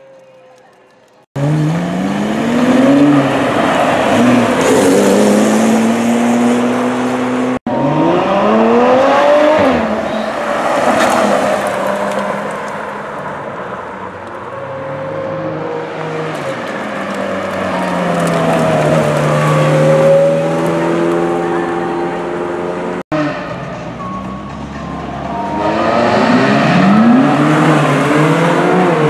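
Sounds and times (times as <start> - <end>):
sports car engines revving: 1.4 - 23.7, 25.4 - 29.0.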